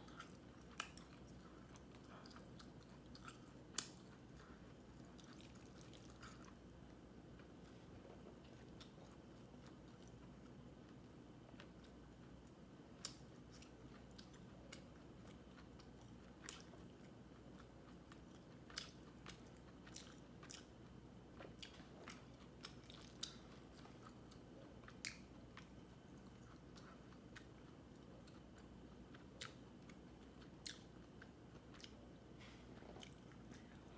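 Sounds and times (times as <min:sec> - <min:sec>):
low steady hum: 0:00.0 - 0:33.9
quiet chewing: 0:00.0 - 0:33.9.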